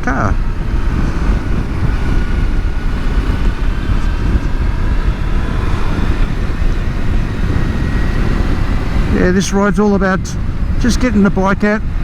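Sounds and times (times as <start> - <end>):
faint engine whine: 0.0 - 12.0
motorcycle engine running: 0.0 - 12.0
wind rush on microphone: 0.0 - 12.0.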